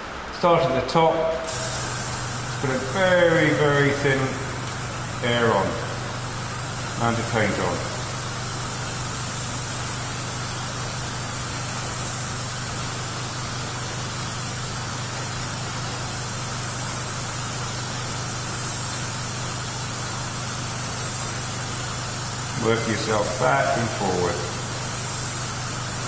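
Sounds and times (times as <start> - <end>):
compressor hum: 0.0 - 26.0
airbrush hissing: 1.4 - 26.0.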